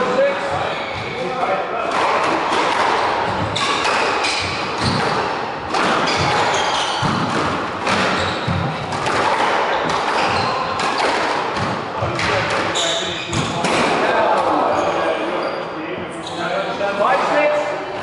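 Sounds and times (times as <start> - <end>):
squash racquet strikes: 0.0 - 14.7
ball hitting court walls: 0.4 - 14.9.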